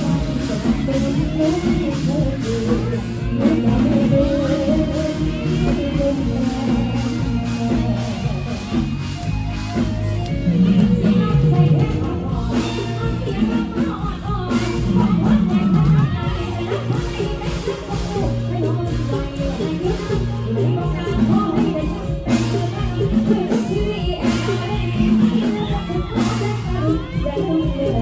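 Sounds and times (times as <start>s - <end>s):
live band drums and bass: 0.0s - 28.0s
person singing: 0.0s - 28.0s.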